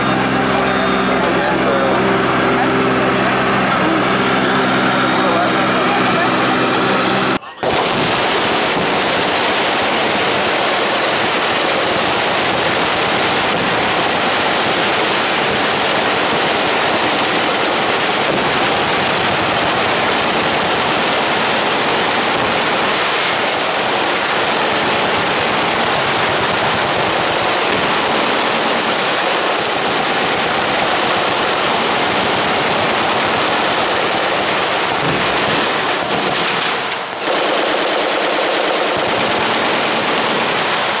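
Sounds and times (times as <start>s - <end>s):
machine guns firing: 0.0s - 41.0s.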